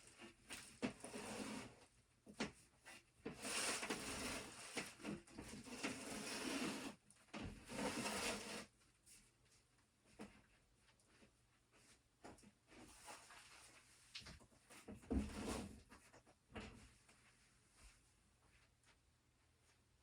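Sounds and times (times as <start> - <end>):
objects rustling and scraping: 0.0 - 18.7.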